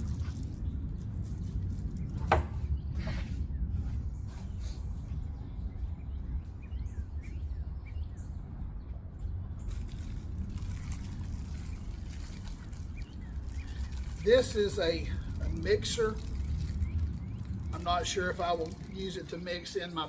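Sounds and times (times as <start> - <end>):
low outdoor rumble: 0.0 - 20.0
small birds chirping: 0.4 - 9.8, 10.5 - 20.0.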